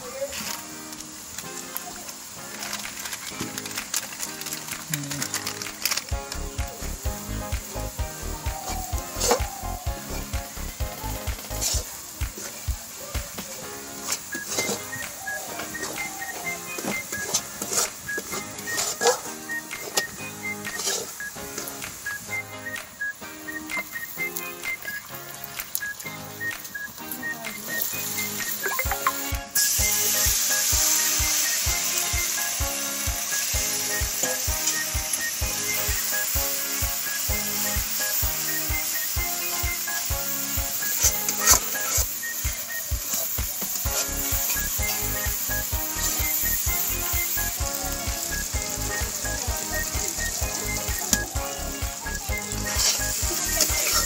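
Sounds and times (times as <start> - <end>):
background music with beat: 0.0 - 54.0
spices sizzling in oil: 0.0 - 54.0.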